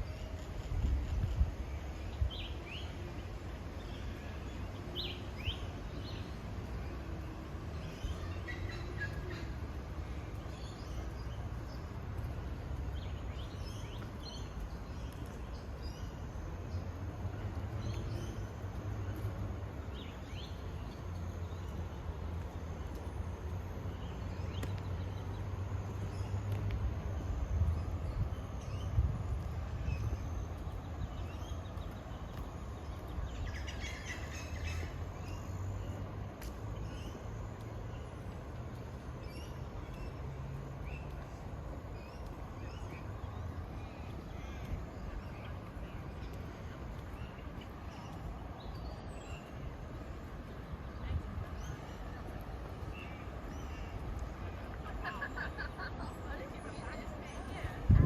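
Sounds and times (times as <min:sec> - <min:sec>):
small birds chirping: 0:03.7 - 0:58.0.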